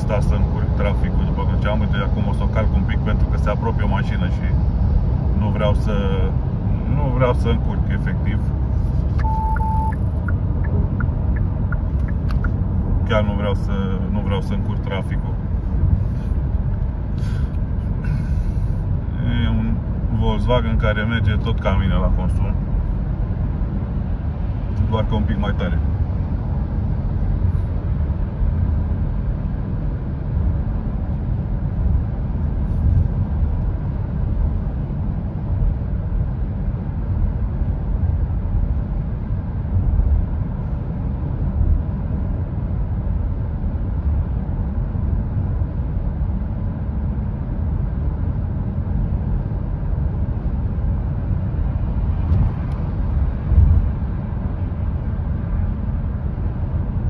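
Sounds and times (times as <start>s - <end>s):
road and wind noise in car: 0.0s - 57.0s.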